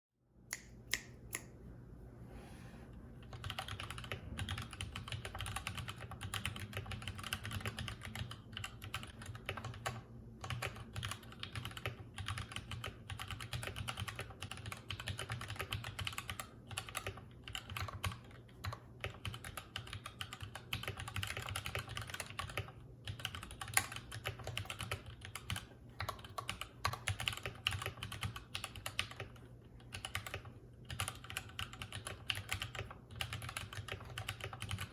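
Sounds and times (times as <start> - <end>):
mechanical keyboard typing: 3.2 - 34.9.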